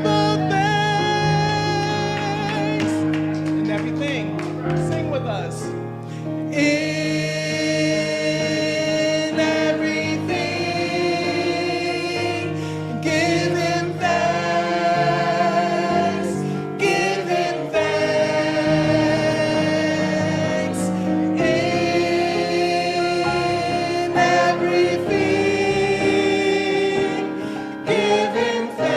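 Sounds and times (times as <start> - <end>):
choir singing in harmony: 0.0 - 3.2, 6.2 - 28.9.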